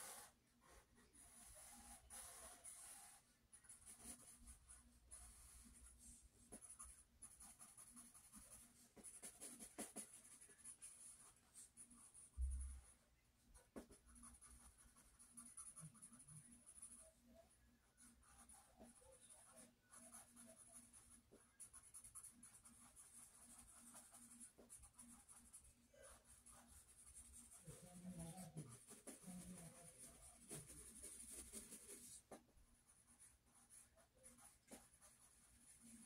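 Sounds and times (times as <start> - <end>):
pencil scratching on paper: 0.0 - 13.0, 13.6 - 36.0.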